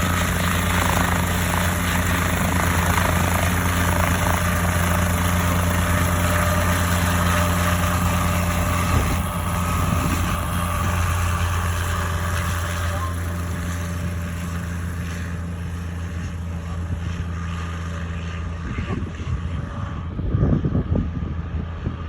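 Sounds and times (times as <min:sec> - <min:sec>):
helicopter rotor and engine drone: 0:00.0 - 0:22.0.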